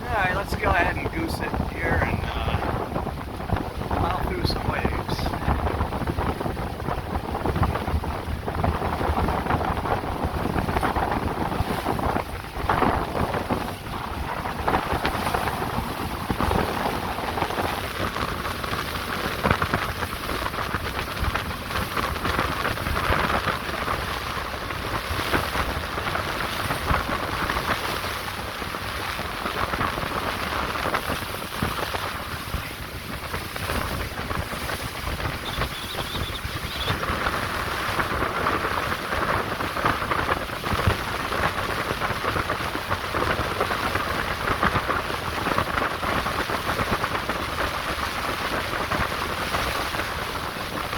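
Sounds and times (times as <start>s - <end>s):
hull slapping waves: 0.0s - 50.9s
wind on microphone: 0.0s - 50.9s
motorboat running at speed: 1.0s - 50.9s.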